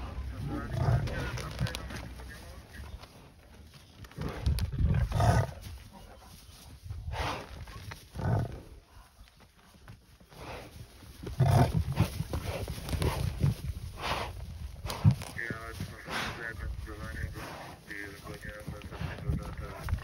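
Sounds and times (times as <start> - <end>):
lions growling and snarling: 0.0 - 2.4, 4.1 - 6.3, 7.0 - 9.0, 10.2 - 20.0.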